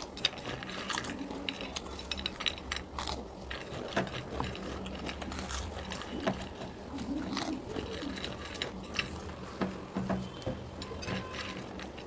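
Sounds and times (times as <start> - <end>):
people crunching crisp snacks: 0.0 - 12.0.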